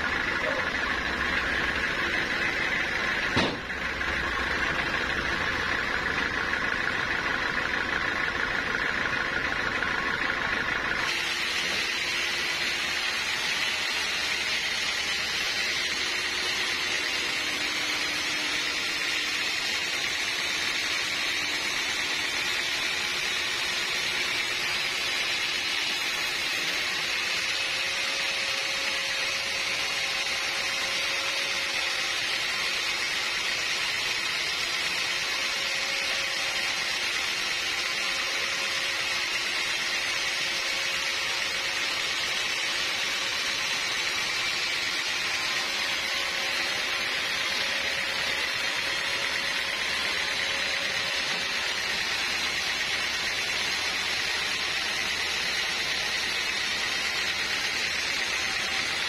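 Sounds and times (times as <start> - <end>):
saw blade cutting wood: 0.0 - 59.0.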